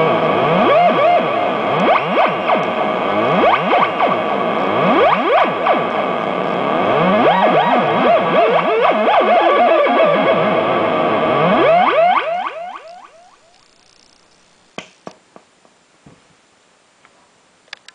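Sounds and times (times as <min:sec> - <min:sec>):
warbling synthesizer tones: 0:00.0 - 0:14.8.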